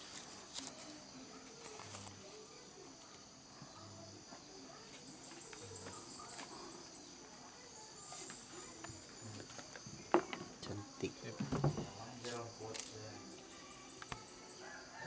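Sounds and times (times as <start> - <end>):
insects chorus: 0.0 - 15.0
rapid insect chirps: 0.0 - 15.0.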